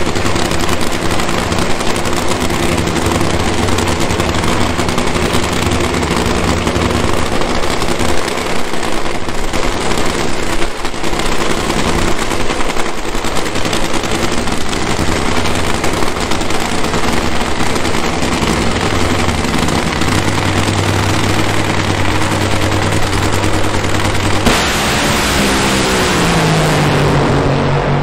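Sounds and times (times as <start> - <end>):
steady low drone: 0.0 - 10.4, 11.4 - 28.0
drag-racing engine crackling: 0.0 - 28.0.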